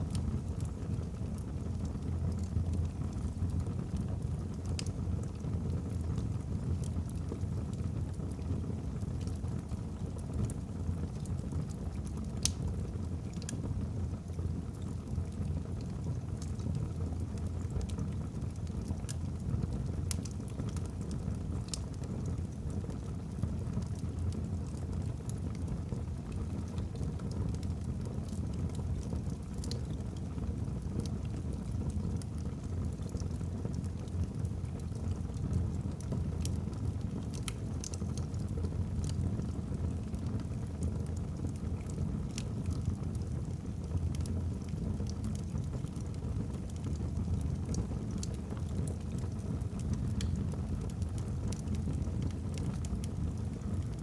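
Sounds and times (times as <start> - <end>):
burning logs crackling and popping: 0.0 - 54.0
low rumble of flames: 0.0 - 54.0.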